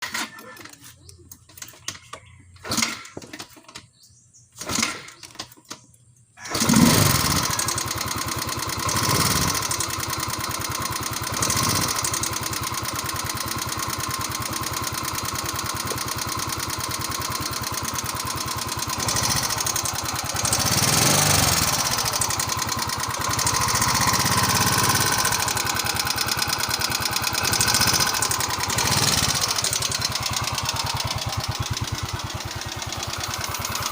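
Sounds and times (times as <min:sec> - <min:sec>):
scooter engine running: 0:06.4 - 0:33.9.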